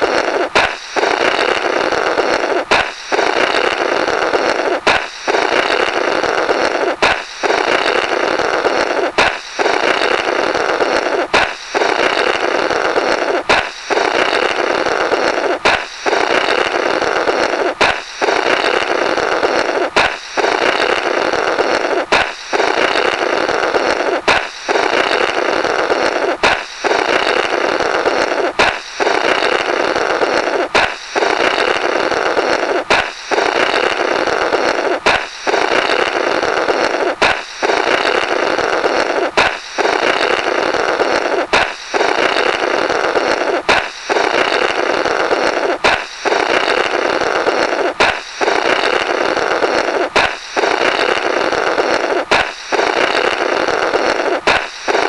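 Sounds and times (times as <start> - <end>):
air blown through burst balloon: 0.0 - 55.0
balloon popping: 0.0 - 55.0.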